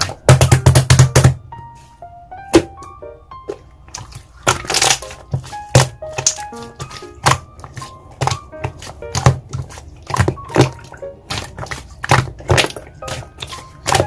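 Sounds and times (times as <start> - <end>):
light background music: 0.0 - 14.0.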